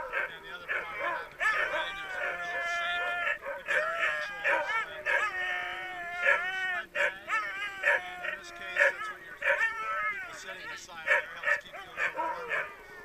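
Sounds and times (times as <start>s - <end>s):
dogs howling and yipping: 0.0s - 13.0s.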